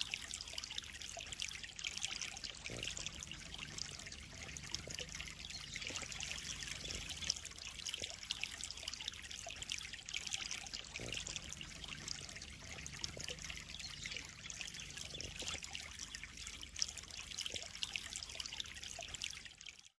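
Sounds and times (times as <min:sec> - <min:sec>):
pond water trickling and splashing: 0:00.0 - 0:20.0.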